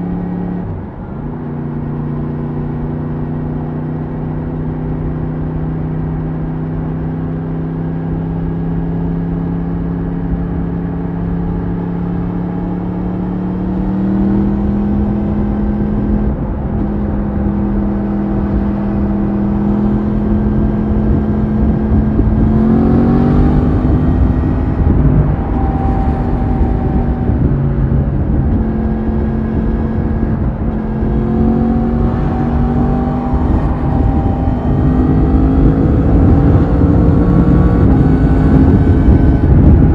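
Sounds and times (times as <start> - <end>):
wind and road noise: 0.0 - 39.9
motorcycle engine revving: 1.3 - 39.9.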